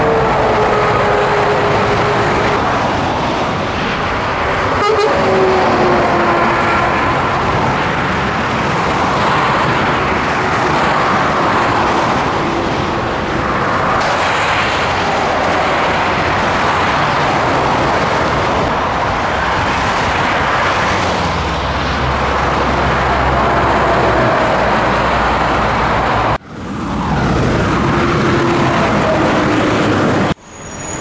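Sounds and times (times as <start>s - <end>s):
road traffic: 0.0s - 31.0s.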